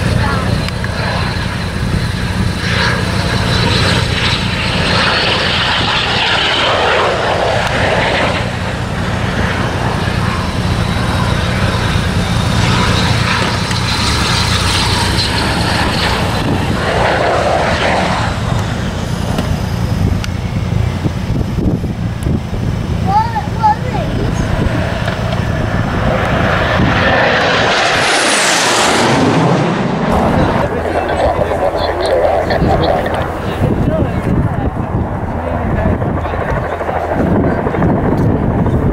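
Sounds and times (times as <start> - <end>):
broad jet rumble: 0.0 - 38.9
jet engine high whine: 0.0 - 38.9.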